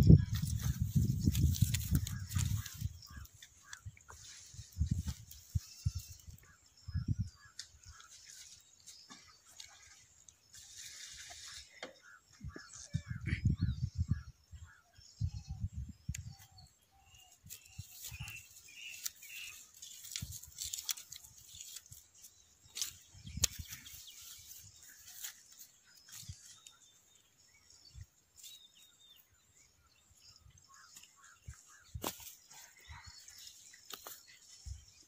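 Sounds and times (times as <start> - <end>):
faint bird chirps: 0.0 - 35.0.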